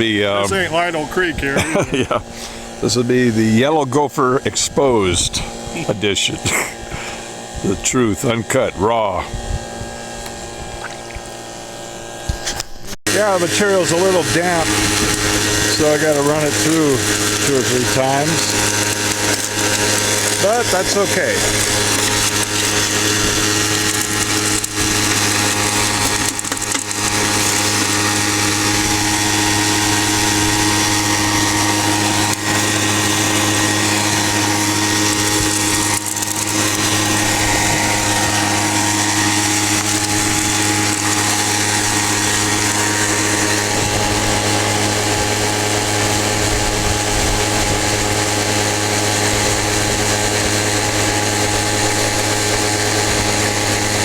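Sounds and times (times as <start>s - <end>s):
engine-driven blower running: 0.0s - 54.0s.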